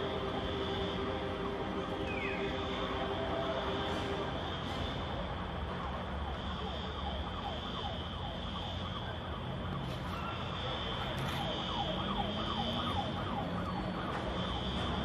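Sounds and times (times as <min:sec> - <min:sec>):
siren sweeping pitch: 0:00.0 - 0:15.0.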